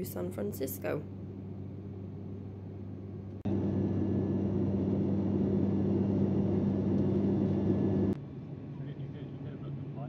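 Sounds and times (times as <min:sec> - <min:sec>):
airplane cabin engine drone: 0:00.0 - 0:10.0
low steady hum: 0:00.0 - 0:10.0.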